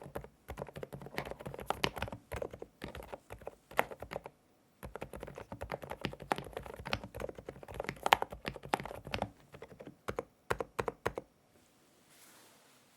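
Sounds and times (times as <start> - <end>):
mechanical keyboard typing: 0.0 - 11.3.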